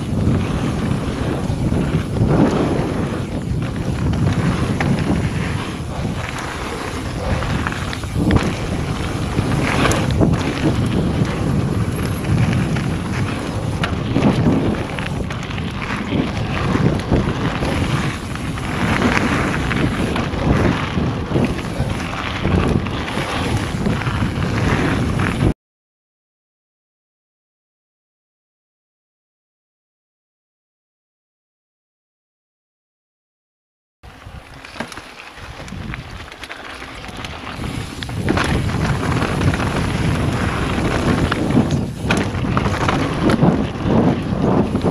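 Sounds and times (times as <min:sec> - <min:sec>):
bike knocks and rattles: 0:00.0 - 0:25.5, 0:34.2 - 0:44.9
tyres rumbling on loose gravel: 0:00.0 - 0:25.5, 0:34.0 - 0:44.9
wind buffeting microphone: 0:00.0 - 0:25.6, 0:34.1 - 0:44.9.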